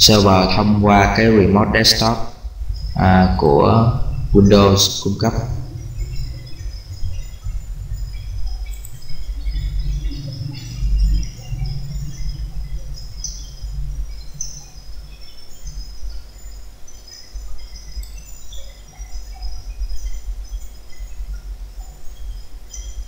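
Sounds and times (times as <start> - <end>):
faint high chirps: 0.0 - 23.0
low rumble: 0.0 - 23.0.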